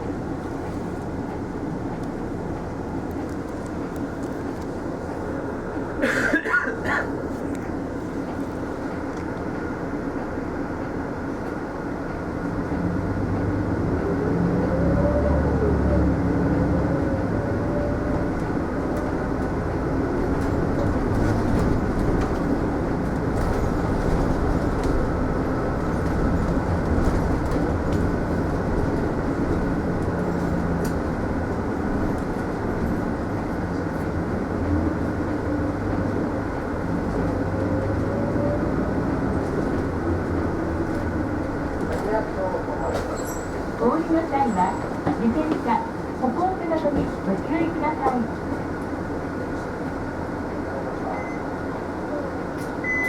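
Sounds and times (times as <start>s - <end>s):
bus engine drone: 0.0s - 53.0s
road noise: 0.0s - 53.0s.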